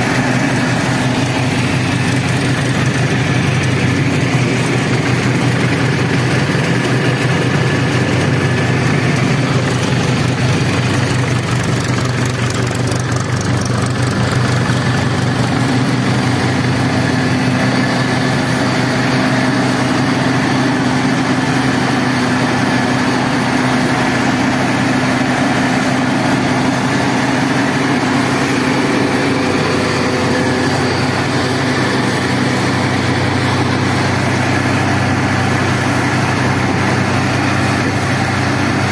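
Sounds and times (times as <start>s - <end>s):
thresher drum and blower: 0.0s - 38.9s
tractor diesel engine running: 0.0s - 38.9s.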